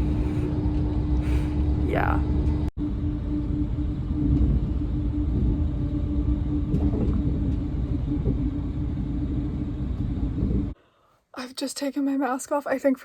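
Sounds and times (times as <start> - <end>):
steady hum: 0.0 - 10.8
vehicle rumble from inside: 0.0 - 10.8.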